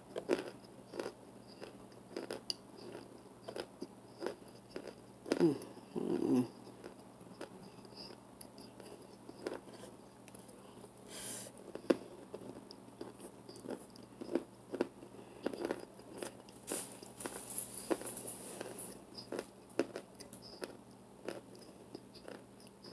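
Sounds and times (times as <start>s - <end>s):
chewing crunchy food: 0.1s - 11.0s, 11.6s - 22.9s.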